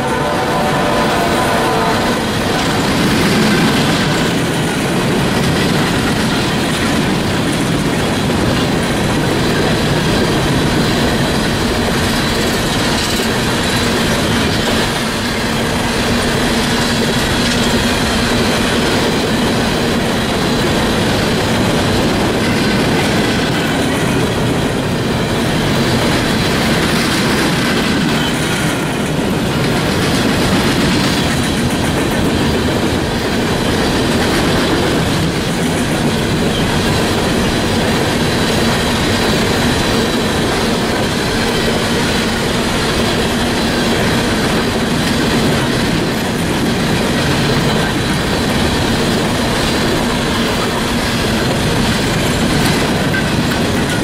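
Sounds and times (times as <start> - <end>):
train wheels clacking over rails: 0.0 - 54.0.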